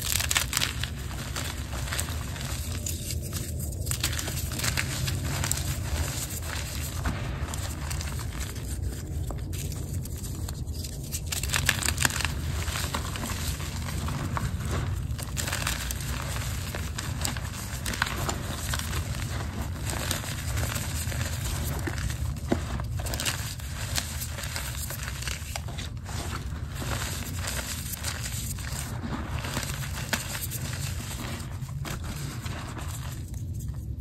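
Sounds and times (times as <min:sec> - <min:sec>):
chalk crunching and crackling: 0:00.0 - 0:34.0.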